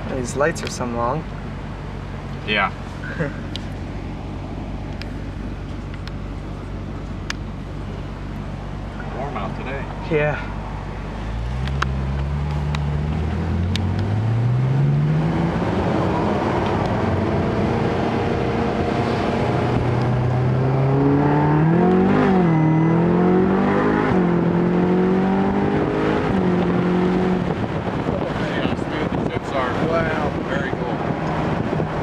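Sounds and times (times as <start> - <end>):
car engine accelerating: 2.2 - 32.0.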